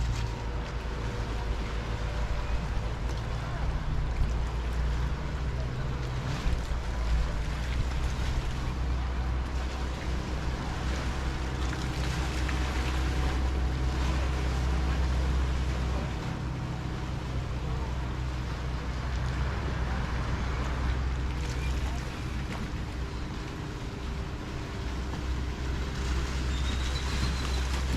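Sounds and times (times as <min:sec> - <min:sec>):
low rumble: 0:00.0 - 0:27.9
small waves washing on shore: 0:00.0 - 0:27.9.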